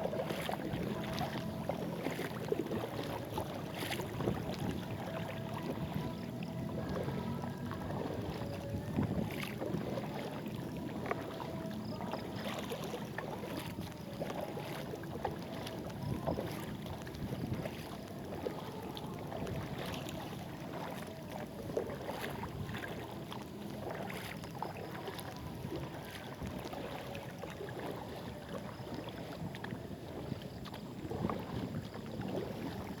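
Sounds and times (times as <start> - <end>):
paddle splashing in water: 0.0 - 33.0.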